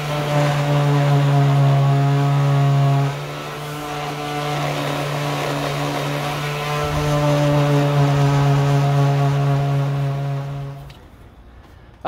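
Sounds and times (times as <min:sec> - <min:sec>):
electric sander humming: 0:00.0 - 0:11.1.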